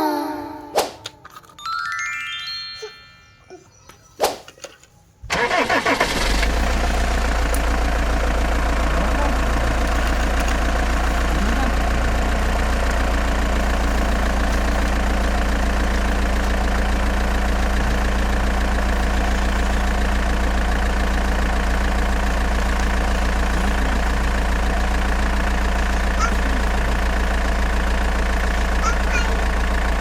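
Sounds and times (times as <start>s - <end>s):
engine idling: 5.3s - 30.0s.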